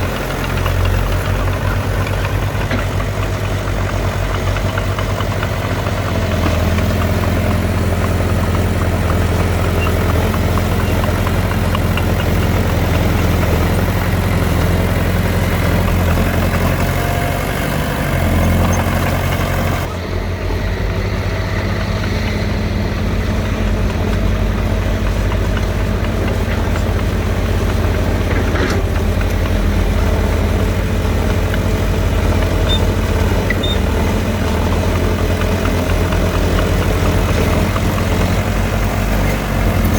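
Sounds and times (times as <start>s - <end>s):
heavy machinery diesel engines droning: 0.0s - 39.9s.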